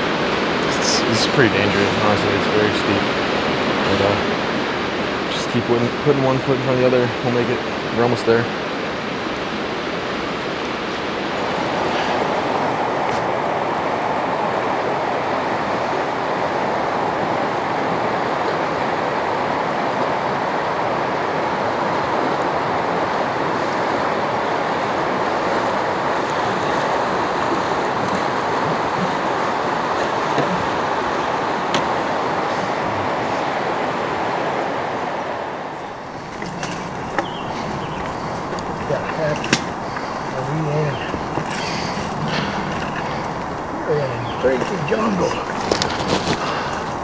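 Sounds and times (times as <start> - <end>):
river water rushing over rocks: 0.0 - 47.0.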